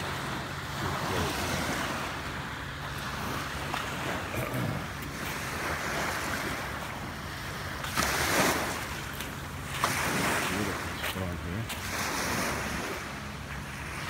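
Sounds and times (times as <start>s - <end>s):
small waves lapping on gravel: 0.0s - 14.0s.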